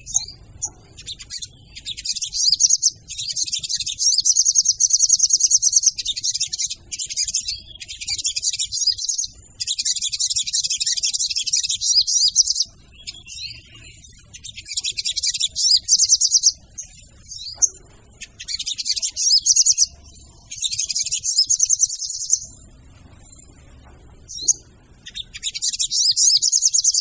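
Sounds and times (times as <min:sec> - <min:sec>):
bird chattering trills: 0:00.0 - 0:27.0.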